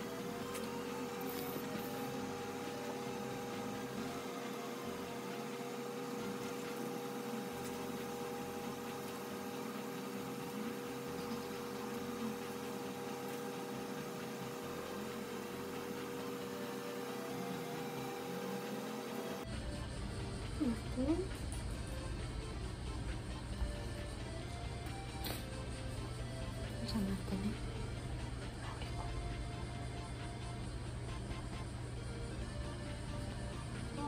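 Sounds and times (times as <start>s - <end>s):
steady hum with faint hiss: 0.0s - 34.0s.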